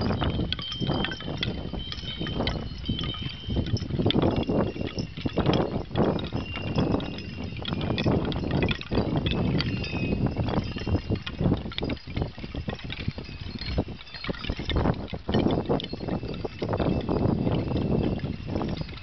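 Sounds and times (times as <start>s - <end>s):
small bells jingling: 0.0s - 19.0s.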